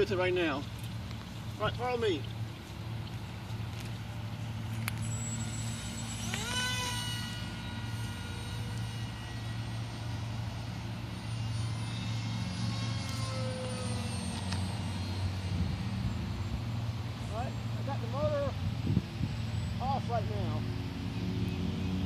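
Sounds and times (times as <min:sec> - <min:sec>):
electric motor and propeller whining: 0:00.0 - 0:22.0.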